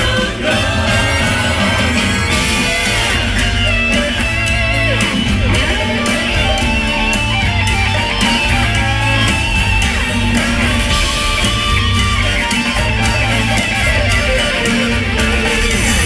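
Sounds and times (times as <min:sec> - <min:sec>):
rock music over sound system: 0:00.0 - 0:16.0.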